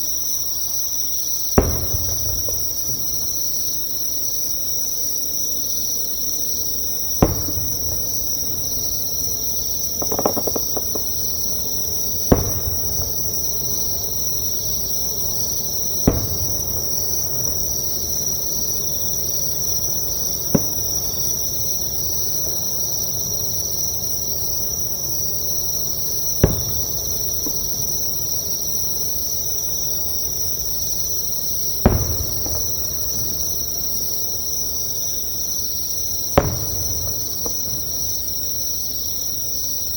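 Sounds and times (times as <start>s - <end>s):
insects trilling: 0.0s - 39.9s
fireworks crackling: 1.4s - 4.8s, 6.4s - 39.0s
distant fireworks booming: 1.4s - 39.1s.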